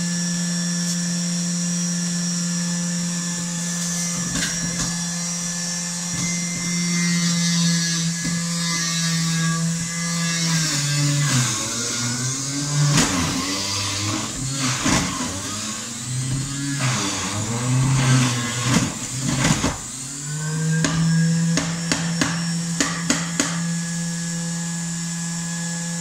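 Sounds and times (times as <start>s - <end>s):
juicer motor whining: 0.0s - 26.0s.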